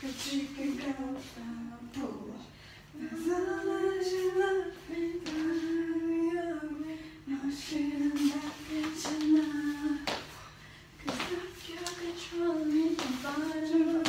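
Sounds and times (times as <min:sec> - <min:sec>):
women singing unaccompanied: 0:00.0 - 0:10.4, 0:11.0 - 0:14.0.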